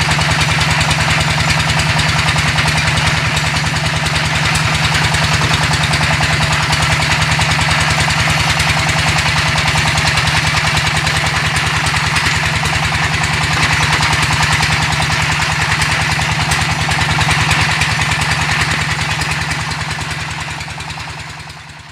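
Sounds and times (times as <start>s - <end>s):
brick-making machine engine drone: 0.0s - 21.9s.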